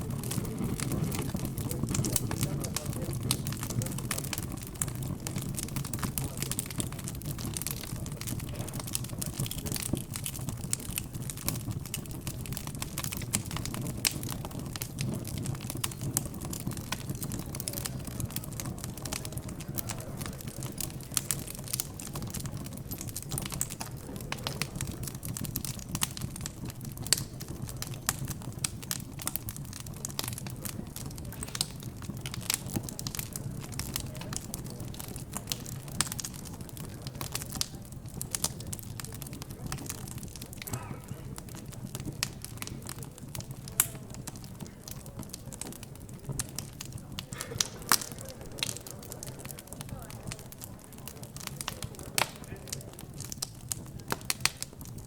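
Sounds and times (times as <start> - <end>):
fireplace crackling and popping: 0.0 - 55.0.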